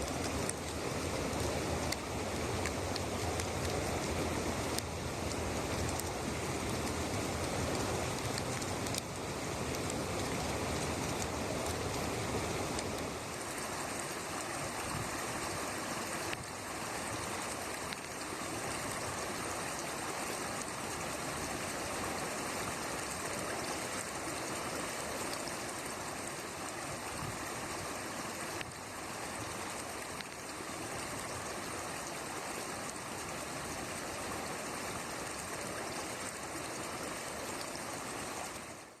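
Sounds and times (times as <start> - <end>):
floodwater rushing down creek: 0.0 - 39.0.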